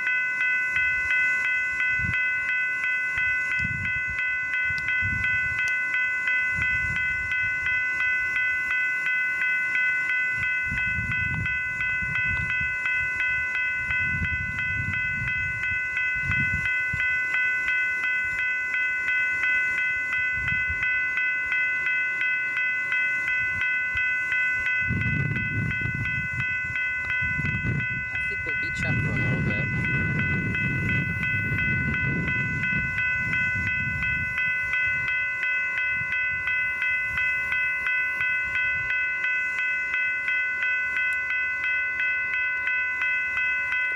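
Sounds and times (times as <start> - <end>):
crossing bell ringing: 0.0 - 43.9
freight train passing: 0.0 - 43.9.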